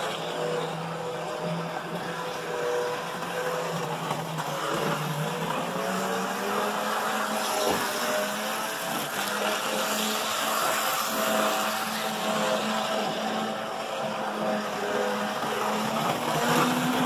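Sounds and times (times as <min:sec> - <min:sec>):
model train motor whine: 0:00.0 - 0:17.0
wheels running on rails: 0:00.0 - 0:17.0.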